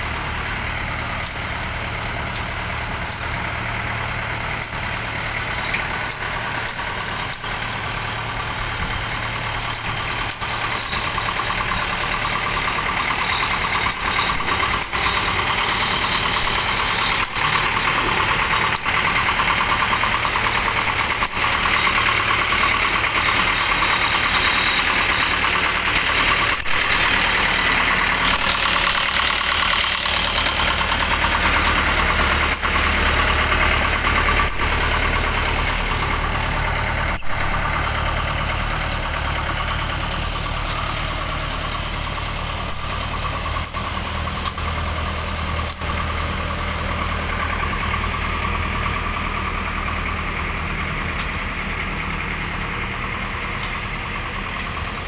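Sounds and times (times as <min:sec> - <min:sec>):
combine harvester diesel engine: 0:00.0 - 0:55.0
dense mechanical clatter: 0:00.0 - 0:55.0.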